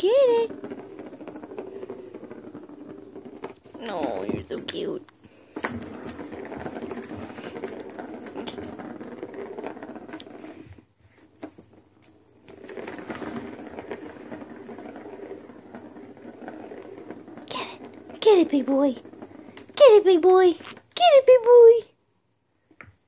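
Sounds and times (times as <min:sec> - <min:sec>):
plastic ball rolling on plastic track: 0:00.0 - 0:21.8.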